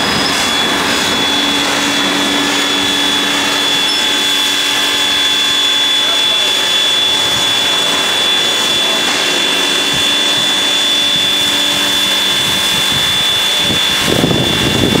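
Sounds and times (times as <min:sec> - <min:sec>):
high ringing tone: 0:00.0 - 0:15.0
low rumbling: 0:00.0 - 0:15.0
steam locomotive hissing: 0:00.0 - 0:15.0.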